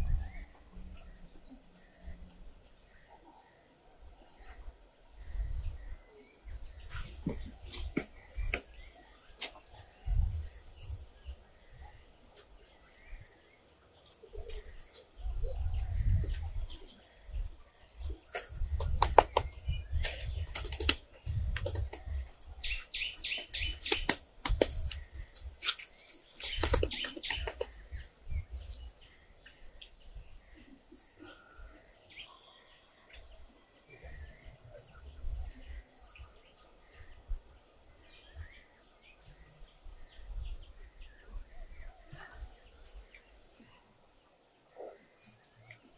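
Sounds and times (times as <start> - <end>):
insect droning: 0.0 - 45.9.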